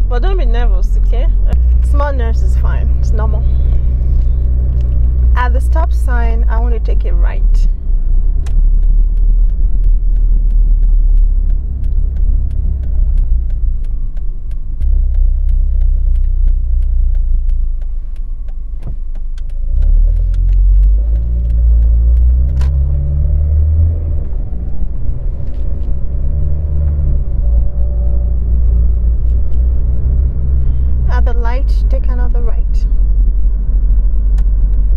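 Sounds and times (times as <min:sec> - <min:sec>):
car engine rumble from cabin: 0:00.0 - 0:34.9
turn signal ticking: 0:00.0 - 0:34.9.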